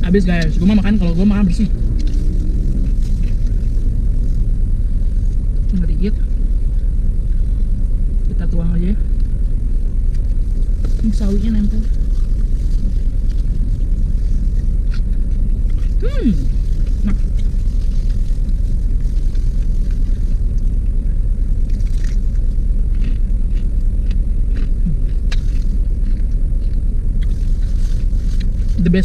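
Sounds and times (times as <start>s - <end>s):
low rumble inside car: 0.0s - 29.0s.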